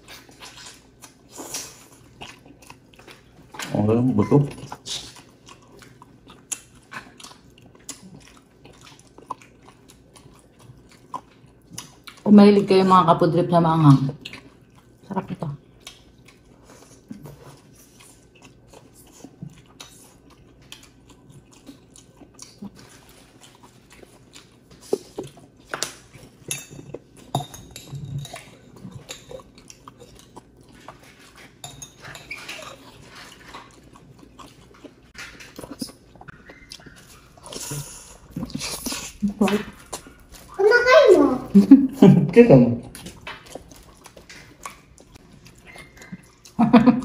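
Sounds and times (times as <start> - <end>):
people chewing food: 0.0 - 47.0.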